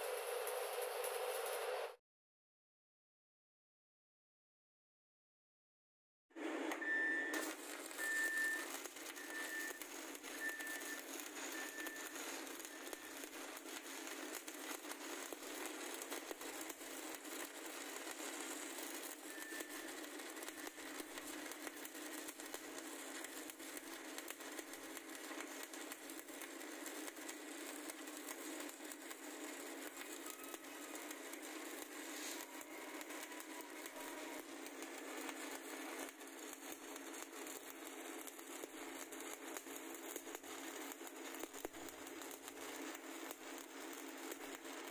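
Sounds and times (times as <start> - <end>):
welding arc crackling: 0.0 - 2.0, 6.4 - 44.9.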